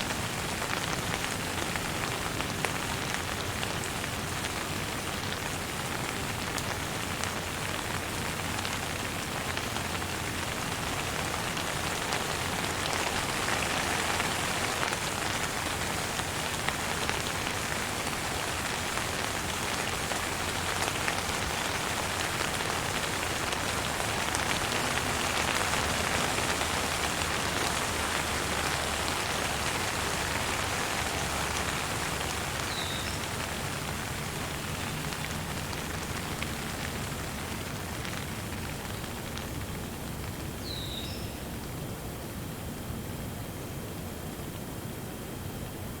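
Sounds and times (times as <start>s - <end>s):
steady rain hiss: 0.0s - 46.0s
ticks of single raindrops: 0.1s - 41.7s.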